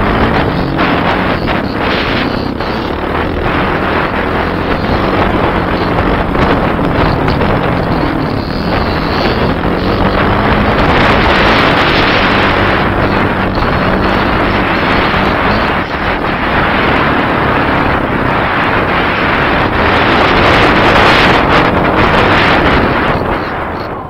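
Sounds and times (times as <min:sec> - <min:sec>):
motorcycle engine running: 0:00.0 - 0:24.0
wind rush on microphone: 0:00.0 - 0:24.0.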